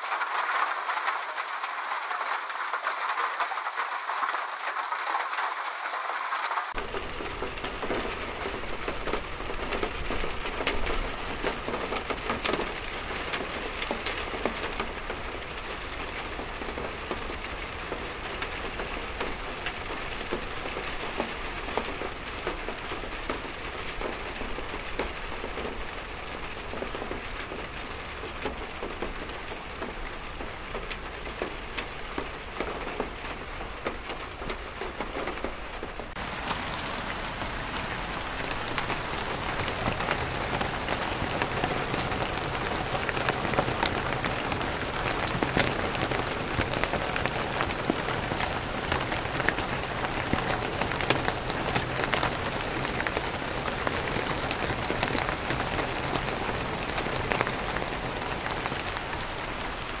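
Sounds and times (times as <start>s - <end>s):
rain on tiled roof: 0.0s - 60.0s
rain pattering on water: 0.0s - 60.0s.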